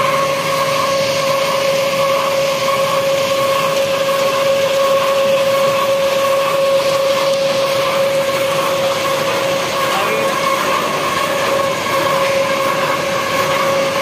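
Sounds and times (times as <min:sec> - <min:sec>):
conveyor belt whine: 0:00.0 - 0:14.0.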